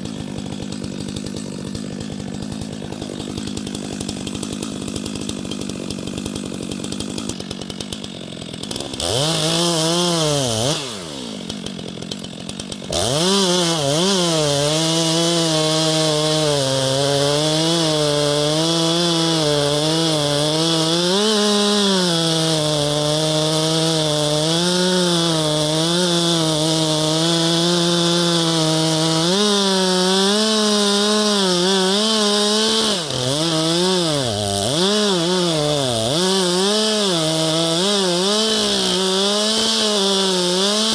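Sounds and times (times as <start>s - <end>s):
chainsaw cutting tree trunk: 0.0s - 40.9s.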